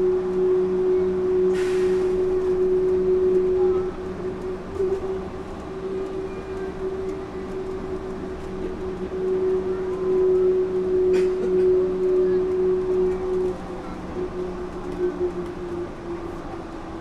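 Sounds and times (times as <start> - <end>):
train drive humming: 0.0 - 17.0
train rolling noise: 0.0 - 17.0.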